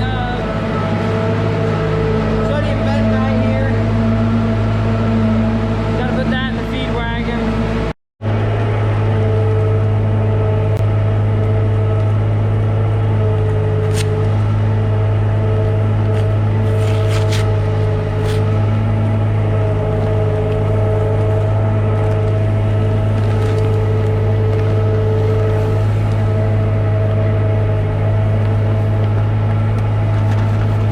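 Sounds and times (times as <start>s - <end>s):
tractor engine running under load: 0.0s - 30.9s.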